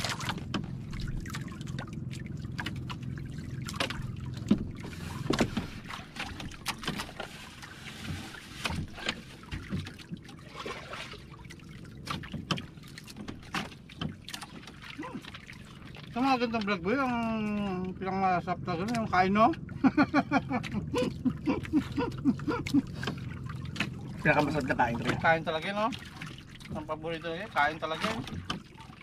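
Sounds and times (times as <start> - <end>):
low steady hum: 0.0 - 29.0
water lapping against hull: 0.0 - 29.0.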